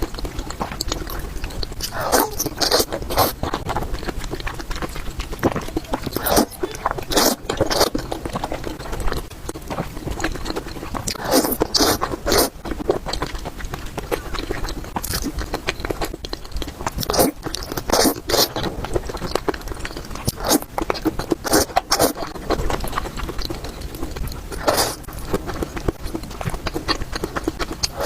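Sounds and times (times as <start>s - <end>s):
person chewing and biting food: 0.0s - 28.0s.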